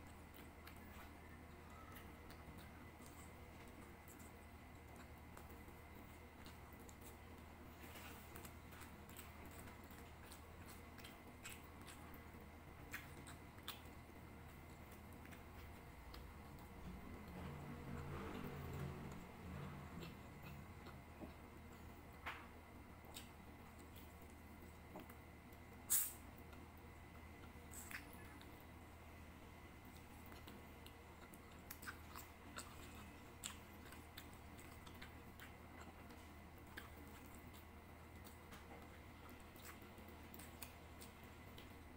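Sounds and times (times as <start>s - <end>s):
eating clicks and smacks: 0.0s - 22.4s, 23.0s - 28.7s, 29.8s - 41.9s
close-up chewing: 0.0s - 41.9s
low steady hum: 0.0s - 41.9s.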